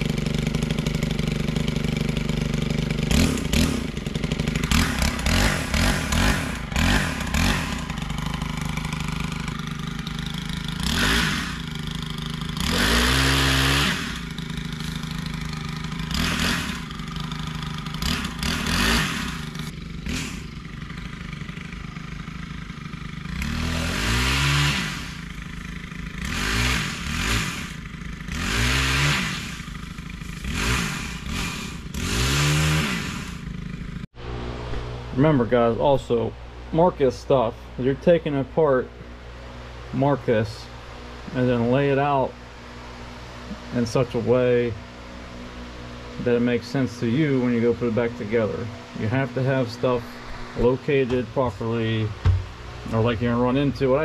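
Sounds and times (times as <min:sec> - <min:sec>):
pole saw engine revving: 0:00.0 - 0:36.0, 0:39.5 - 0:54.0.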